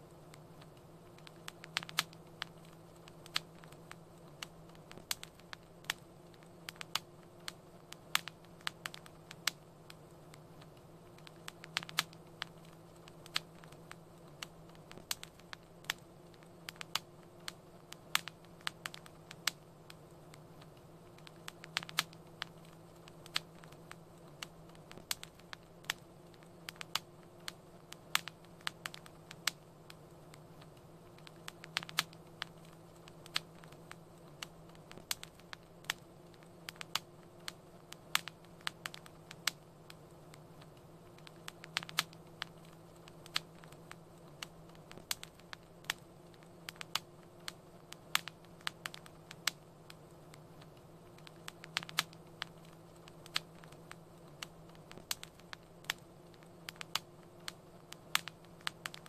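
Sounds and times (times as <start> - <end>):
faint steady low hum: 0.0 - 59.0
wood fire crackling: 0.0 - 59.0.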